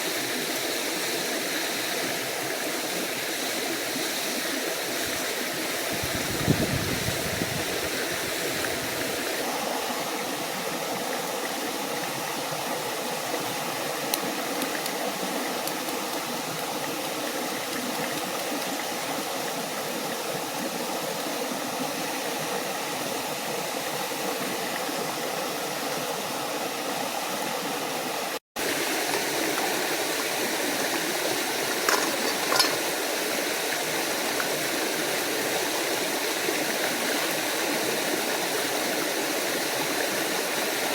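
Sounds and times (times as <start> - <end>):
stream and waterfall rushing: 0.0 - 40.9.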